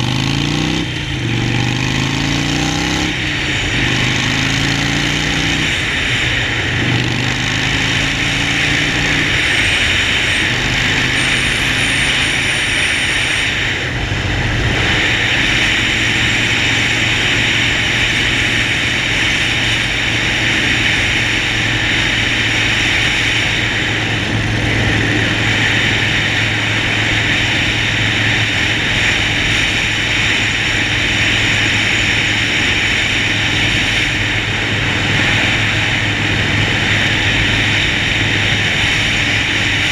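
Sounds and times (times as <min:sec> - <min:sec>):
motorcycle engine cruising: 0:00.0 - 0:39.9
wind noise: 0:00.6 - 0:39.9.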